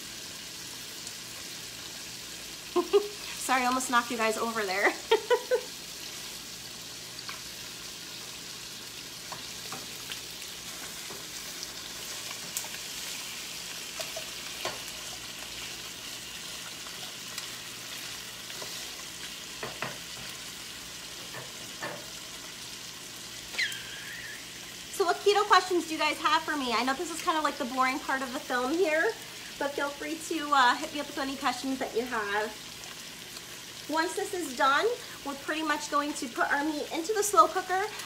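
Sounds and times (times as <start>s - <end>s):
chicken sizzling in a skillet: 0.0s - 38.0s.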